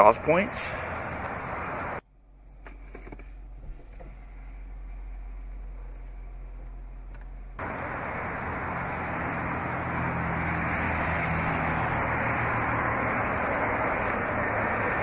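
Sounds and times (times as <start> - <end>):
road vehicle noise rushing: 0.0 - 15.0.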